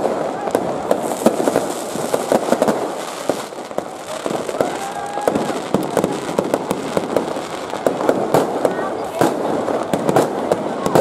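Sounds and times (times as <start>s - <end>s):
continuous crackling hiss: 0.0s - 11.0s
firecrackers cracking and popping: 0.0s - 11.0s.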